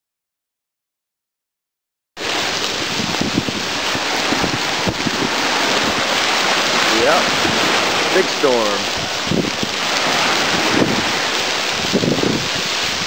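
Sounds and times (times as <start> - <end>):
surf washing around pilings: 2.2 - 13.0
wind buffeting microphone: 2.2 - 13.0.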